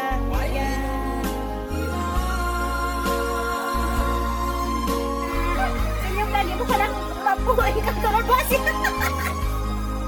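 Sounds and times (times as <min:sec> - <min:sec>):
recorded song with bass line: 0:00.0 - 0:10.0.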